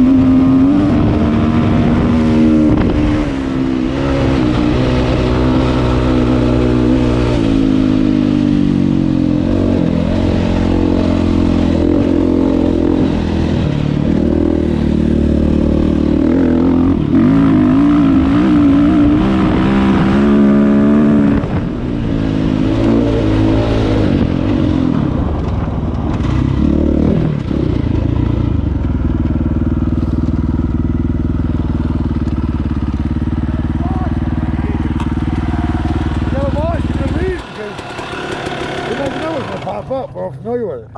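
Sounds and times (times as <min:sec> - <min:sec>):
dirt bike engine revving: 0:00.0 - 0:40.6.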